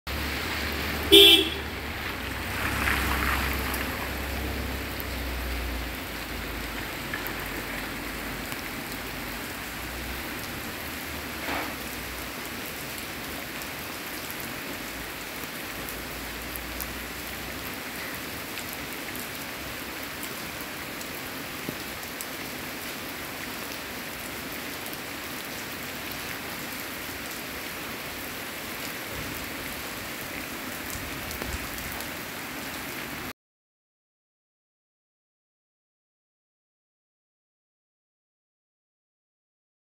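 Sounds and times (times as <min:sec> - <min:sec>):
rain on pavement and plants: 0:00.1 - 0:33.4.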